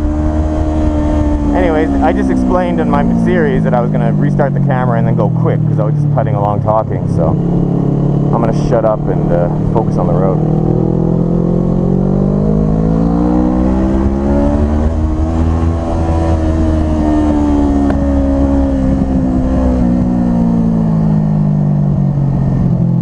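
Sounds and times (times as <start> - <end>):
motorcycle engine revving: 0.0 - 23.0
wind noise: 0.0 - 23.0.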